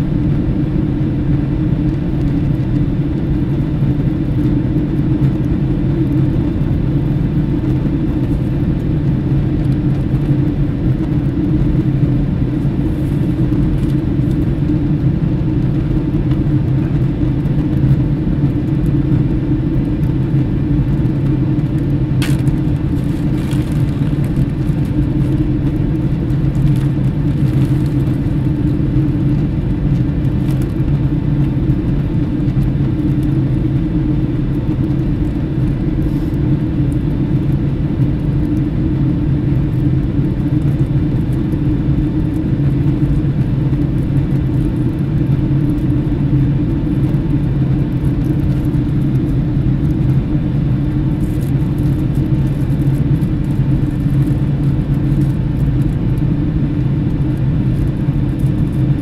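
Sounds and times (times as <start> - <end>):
low engine rumble: 0.0 - 59.0.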